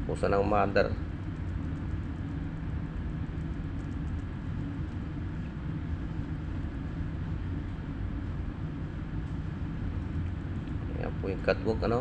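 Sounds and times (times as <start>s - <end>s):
ship engine rumble: 0.0s - 12.0s.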